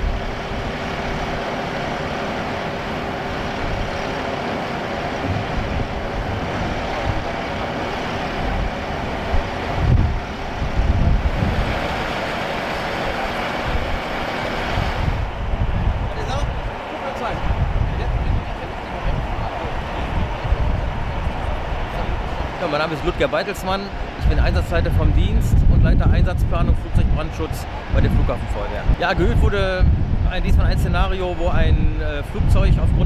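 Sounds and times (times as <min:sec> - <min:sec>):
vehicle engine hum: 0:00.0 - 0:31.9
low rumbling surges: 0:00.0 - 0:33.0.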